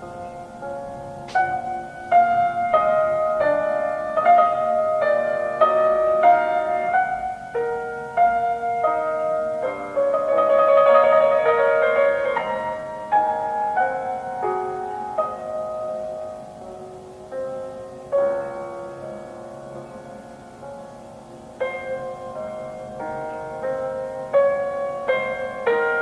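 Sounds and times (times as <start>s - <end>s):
slow solo piano melody: 0.0s - 26.0s.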